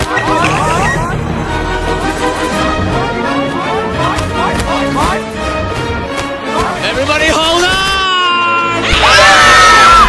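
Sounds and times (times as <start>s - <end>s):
orchestral film music: 0.0s - 10.0s.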